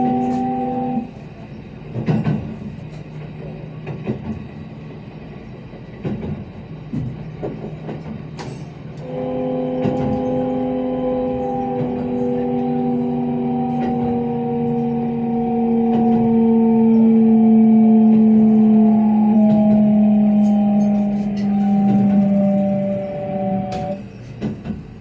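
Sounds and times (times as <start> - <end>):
train traction motors whining: 0.0 - 25.0.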